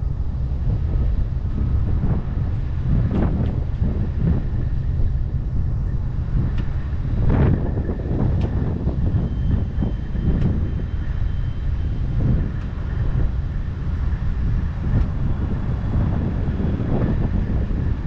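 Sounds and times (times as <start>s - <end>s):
diesel excavator engine rumbling: 0.0s - 18.0s.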